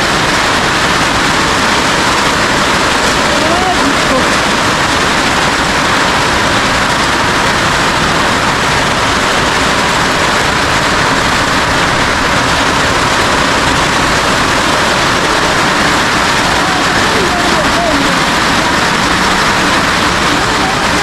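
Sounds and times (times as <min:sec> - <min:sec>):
heavy rain on a roof: 0:00.0 - 0:21.0.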